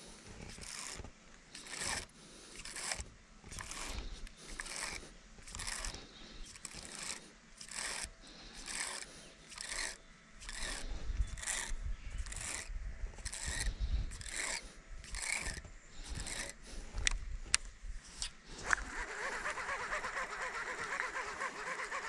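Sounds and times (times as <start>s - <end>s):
fishing reel cranking whir: 0.4s - 17.1s, 18.6s - 22.0s.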